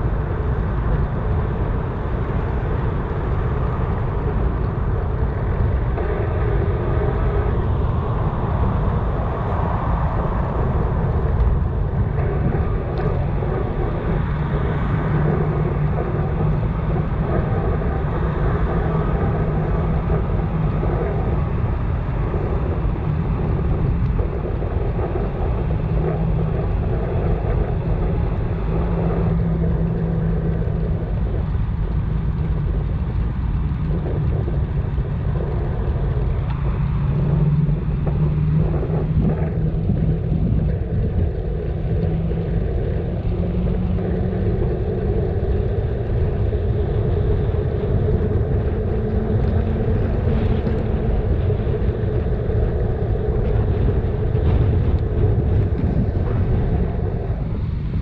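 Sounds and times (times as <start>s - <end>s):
road noise: 0.0s - 58.0s
wind rushing on microphone: 0.0s - 58.0s.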